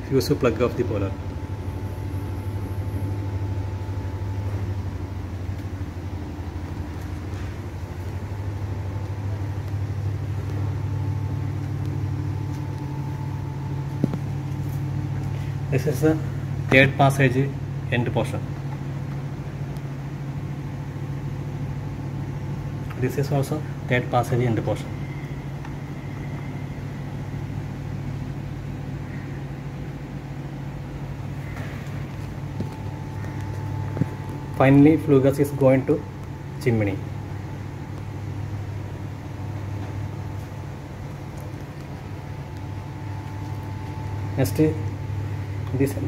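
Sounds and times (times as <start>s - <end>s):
low machine hum with tones: 0.0s - 46.0s.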